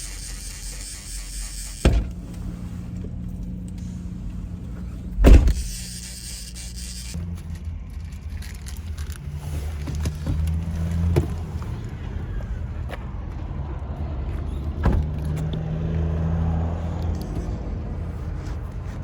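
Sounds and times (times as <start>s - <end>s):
engine and road noise drone: 0.0s - 19.0s.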